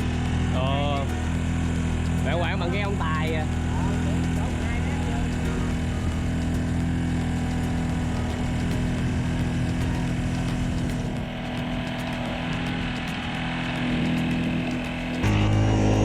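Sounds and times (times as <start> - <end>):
small boat engine running: 0.0 - 16.0.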